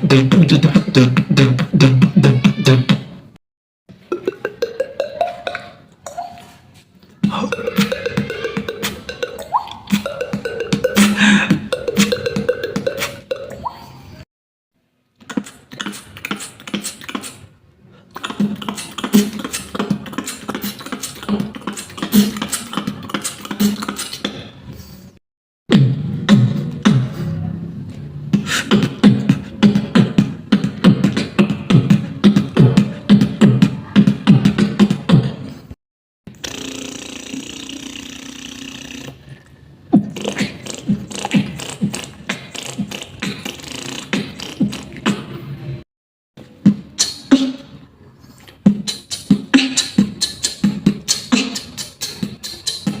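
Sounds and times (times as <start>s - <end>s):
person beatboxing: 0.0s - 3.3s, 3.9s - 14.2s, 15.2s - 45.8s, 46.4s - 47.8s, 48.4s - 53.0s.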